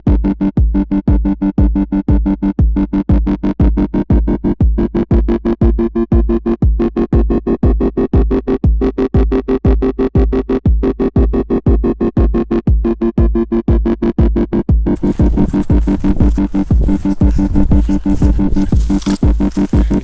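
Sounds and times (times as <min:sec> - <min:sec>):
electronic dance music: 0:00.0 - 0:20.0
pulsing bass beat: 0:00.0 - 0:20.0
steady synthesizer chord: 0:00.0 - 0:20.0.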